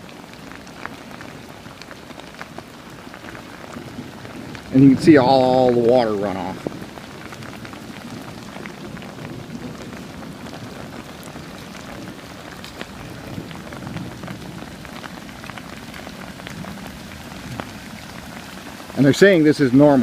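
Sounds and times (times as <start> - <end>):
light drizzle patter: 0.0 - 20.0
rainwater dripping: 0.0 - 20.0.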